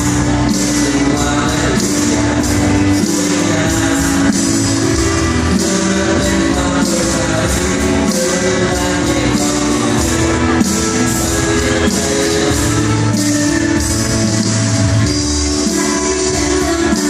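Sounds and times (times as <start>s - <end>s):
rock song with guitar: 0.0s - 17.0s.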